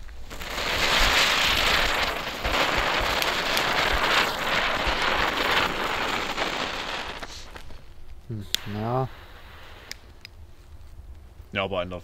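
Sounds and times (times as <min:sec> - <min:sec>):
firework fizzing hiss: 0:00.0 - 0:11.1.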